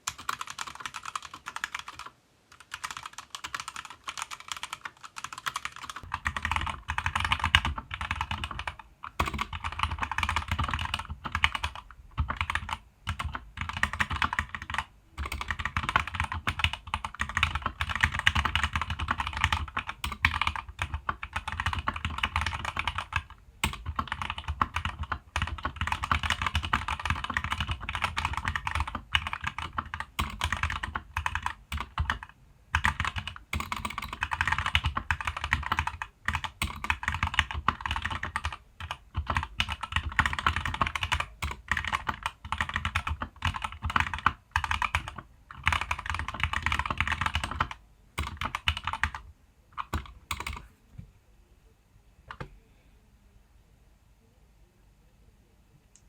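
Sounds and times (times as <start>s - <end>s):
fast typing on mechanical keyboard: 0.0s - 50.6s.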